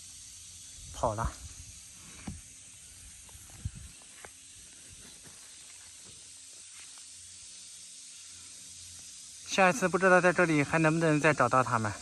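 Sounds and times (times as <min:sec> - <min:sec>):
outdoor field ambience hiss: 0:00.0 - 0:12.0.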